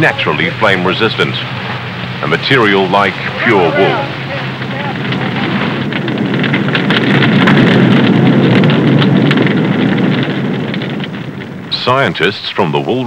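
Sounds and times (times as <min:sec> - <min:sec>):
fire crackling: 0:00.0 - 0:13.0
fire rushing noise: 0:00.0 - 0:13.0.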